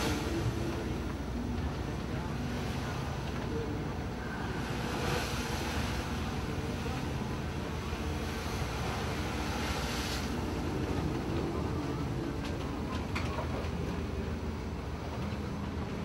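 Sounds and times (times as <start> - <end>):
low engine drone: 0.0 - 16.0
storm wind and heavy seas: 0.0 - 16.0.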